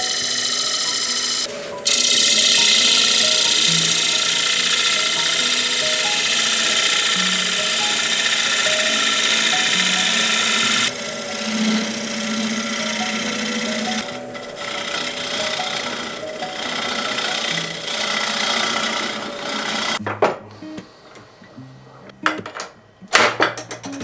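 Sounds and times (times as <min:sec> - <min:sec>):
gouge cutting wood on lathe: 0:00.0 - 0:20.0
sandpaper on spinning bowl: 0:00.0 - 0:20.0
soft background music: 0:00.0 - 0:23.1.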